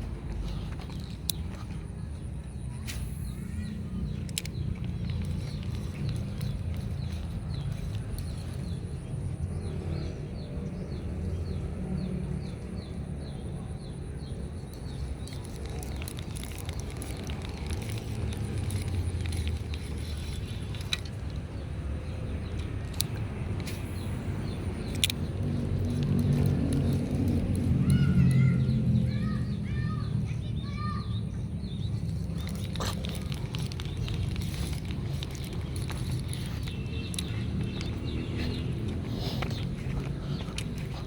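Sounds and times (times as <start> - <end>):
sharp clicks: 0.0 - 9.0, 14.6 - 29.5, 31.8 - 41.0.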